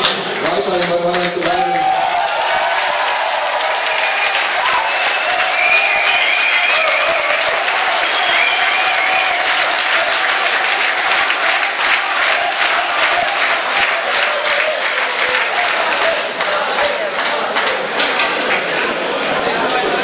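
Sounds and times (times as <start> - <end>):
crowd applauding: 0.0 - 20.0
voices cheering: 1.2 - 20.0.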